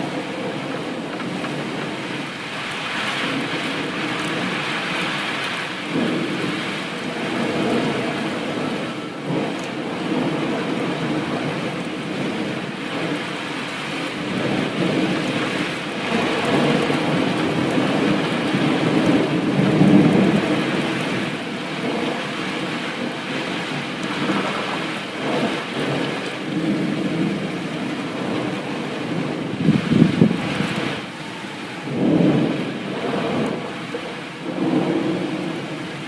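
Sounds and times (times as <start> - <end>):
rain hiss: 0.0 - 36.0
thunder rumbling: 0.0 - 36.0.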